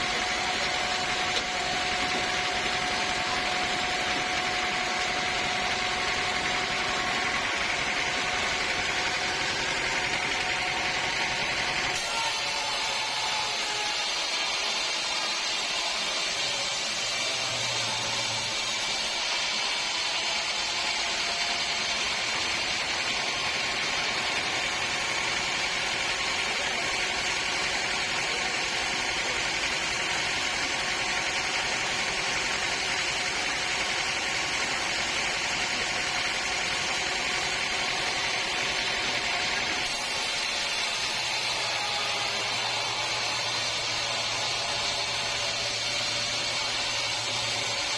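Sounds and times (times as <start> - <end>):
sawmill machinery whining: 0.0 - 47.9.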